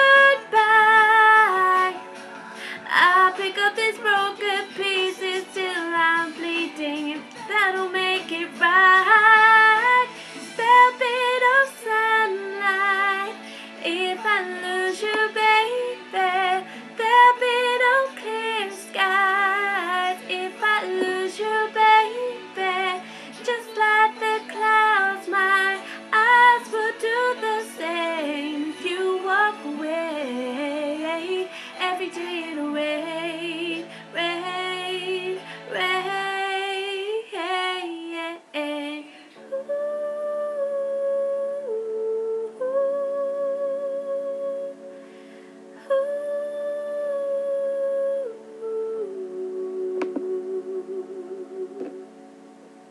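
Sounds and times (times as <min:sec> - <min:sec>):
musical accompaniment: 0:00.0 - 0:37.6, 0:39.0 - 0:52.9
high voice singing wordless runs: 0:00.0 - 0:44.8.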